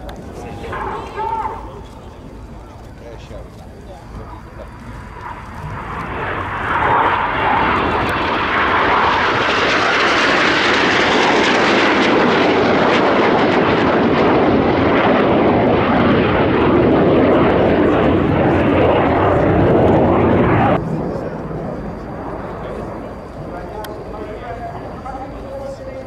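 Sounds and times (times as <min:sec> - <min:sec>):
jets flying past: 0:00.0 - 0:26.0.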